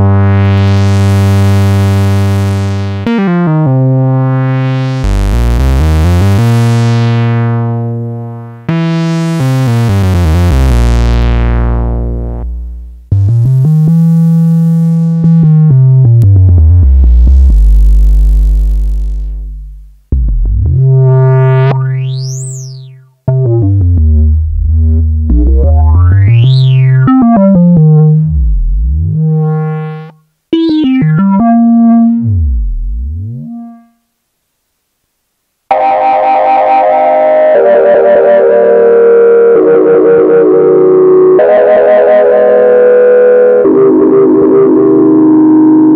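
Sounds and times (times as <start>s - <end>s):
synthesizer bass notes: 0.0s - 34.0s, 35.7s - 45.9s.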